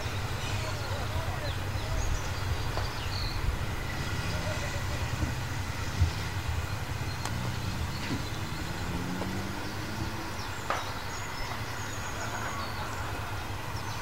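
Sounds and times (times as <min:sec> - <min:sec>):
bird chirping: 0:00.0 - 0:14.0
distant train rumbling: 0:00.0 - 0:14.0.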